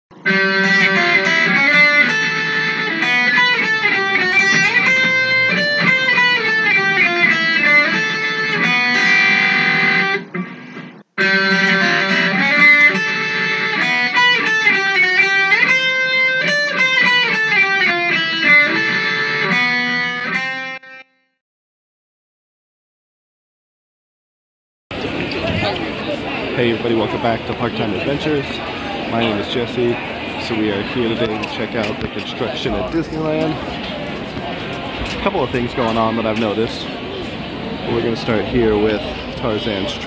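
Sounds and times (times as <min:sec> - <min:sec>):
instrumental guitar music: 0:00.1 - 0:21.2, 0:24.9 - 0:40.0.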